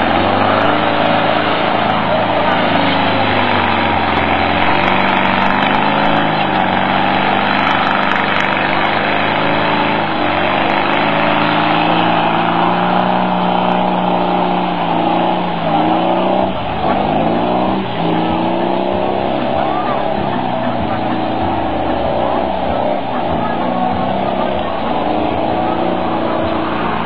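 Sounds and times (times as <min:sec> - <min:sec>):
car engine running under load: 0:00.0 - 0:27.0.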